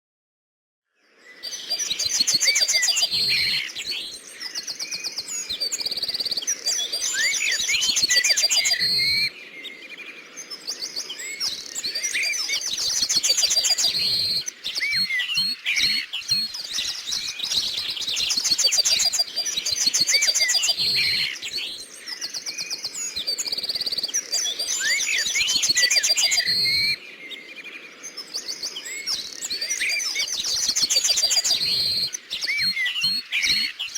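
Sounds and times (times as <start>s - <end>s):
songbirds chirping and singing: 1.0s - 33.9s.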